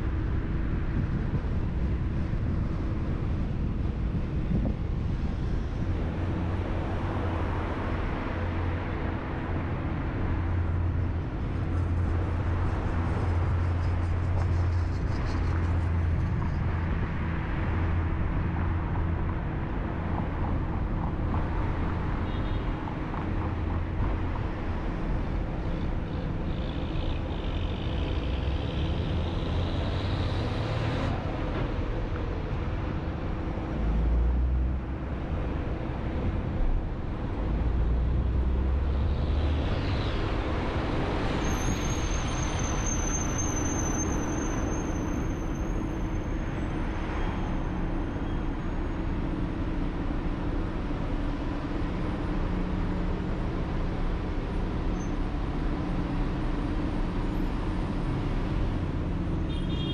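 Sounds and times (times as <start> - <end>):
bus passing alongside: 0.0 - 59.9.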